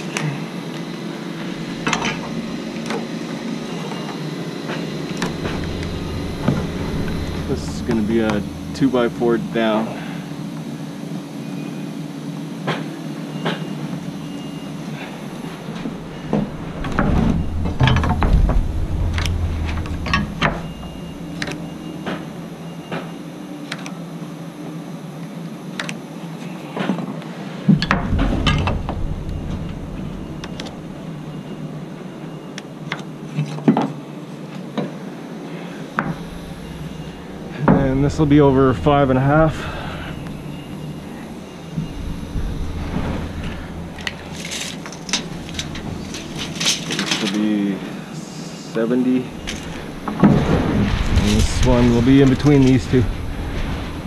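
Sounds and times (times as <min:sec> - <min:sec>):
faint steady hum: 0:00.0 - 0:54.0
low rumbling: 0:01.3 - 0:11.9, 0:13.3 - 0:23.6, 0:27.7 - 0:33.3, 0:35.9 - 0:54.0.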